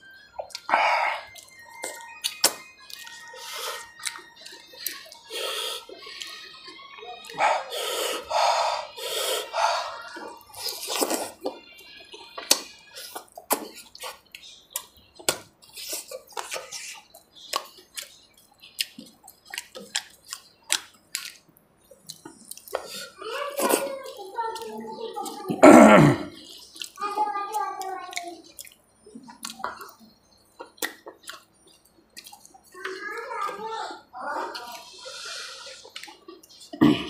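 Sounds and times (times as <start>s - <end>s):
wet chewing and lip smacking: 0.3s - 25.5s, 26.3s - 33.6s, 34.4s - 36.8s.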